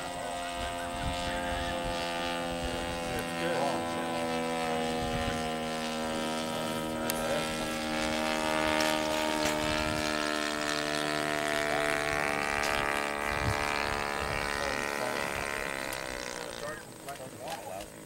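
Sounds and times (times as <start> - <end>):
model airplane motor and propeller: 0.0 - 18.0.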